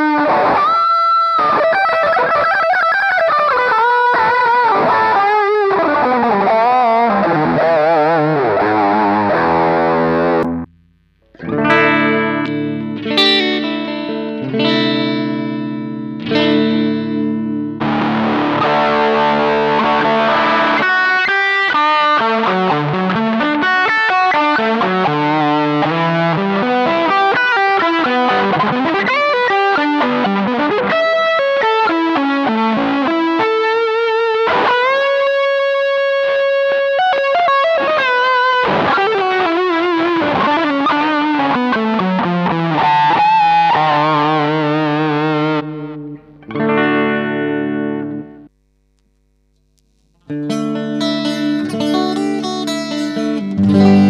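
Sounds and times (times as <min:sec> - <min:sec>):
electric guitar lead line: 0:00.0 - 0:54.0.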